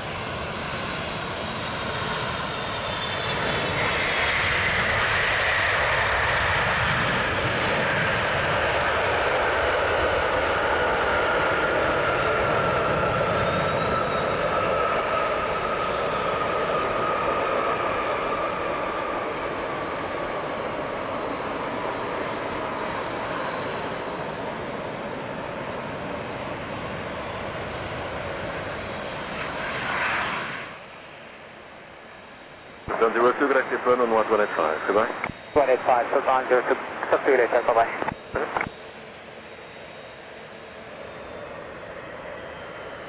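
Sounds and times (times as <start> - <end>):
jet engines with falling whine: 0.0 - 43.0.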